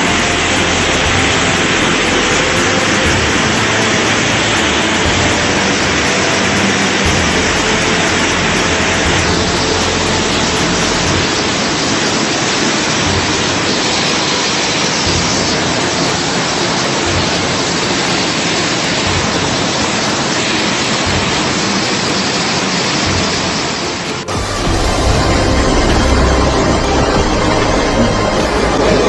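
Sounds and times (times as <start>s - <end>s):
floodwater rushing: 0.0s - 29.0s
low rumbles: 0.0s - 29.0s.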